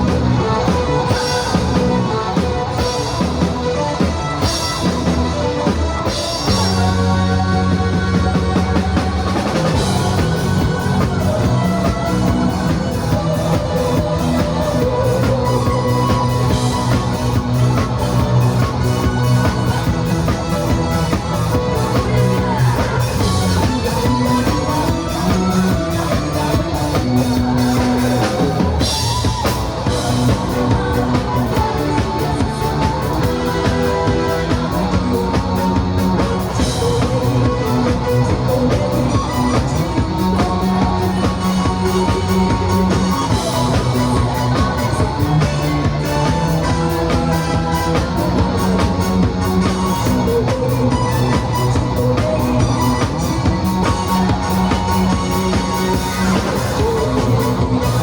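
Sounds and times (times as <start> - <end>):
drum kit beat: 0.0 - 58.0
electric guitar: 0.0 - 58.0
rock band music: 0.0 - 58.0.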